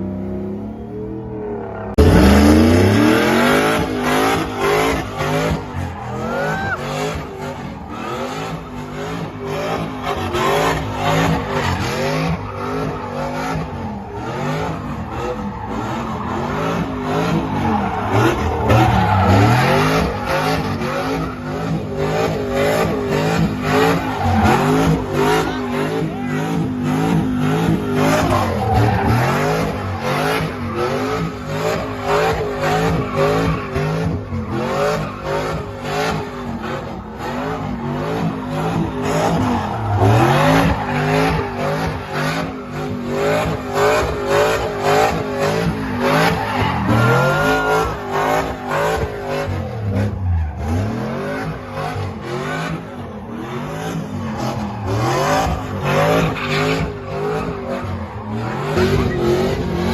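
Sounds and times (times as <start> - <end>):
tire squeal: 0.0 - 59.9
vehicle engines revving: 0.0 - 59.9.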